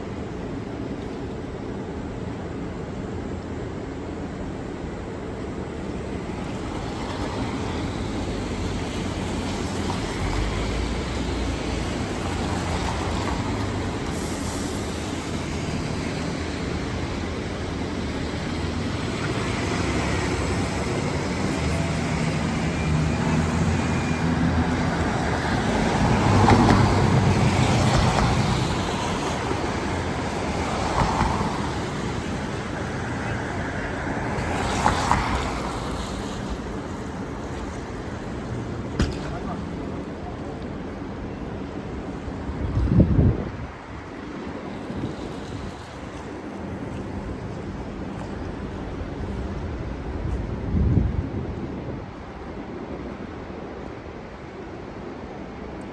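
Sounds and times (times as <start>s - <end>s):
vehicles passing on wet road: 5.3s - 55.9s.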